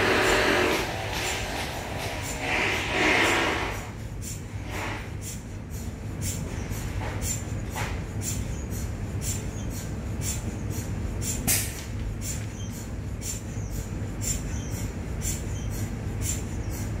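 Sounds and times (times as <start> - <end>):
pneumatic air hisses: 0.0 - 16.9.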